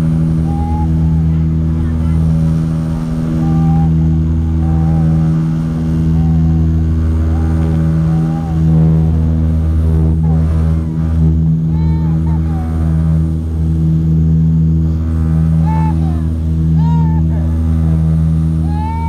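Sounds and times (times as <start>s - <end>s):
low propeller hum: 0.0s - 19.0s
turboprop engine drone: 0.0s - 19.0s.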